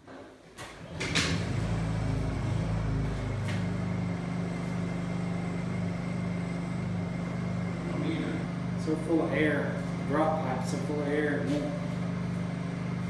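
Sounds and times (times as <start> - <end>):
generator engine humming: 0.8 - 13.0.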